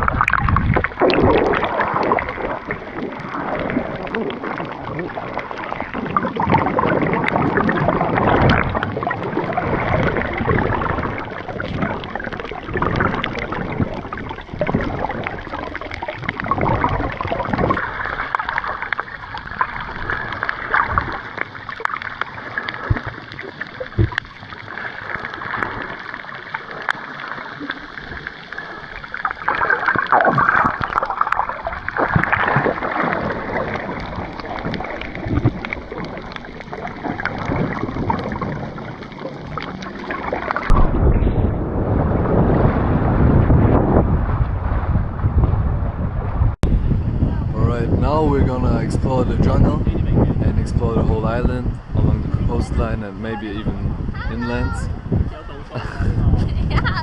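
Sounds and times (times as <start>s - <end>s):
water splashing and sloshing: 0.0s - 47.6s, 48.3s - 57.0s.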